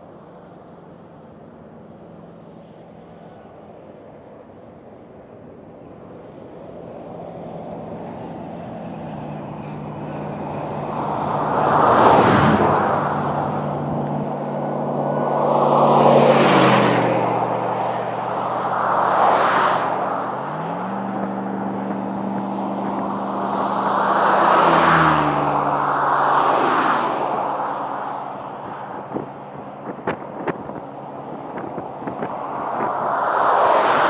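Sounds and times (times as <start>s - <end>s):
cars passing on highway: 0.0s - 34.0s
steady engine drone: 0.0s - 34.0s.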